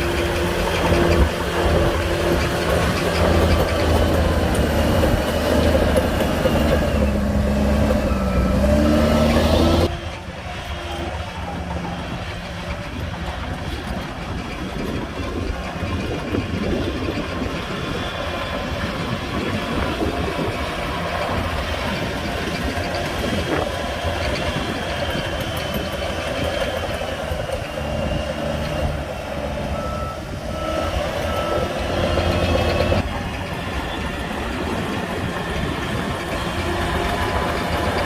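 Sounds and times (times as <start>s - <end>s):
heavy diesel machinery engines: 0.0s - 38.0s.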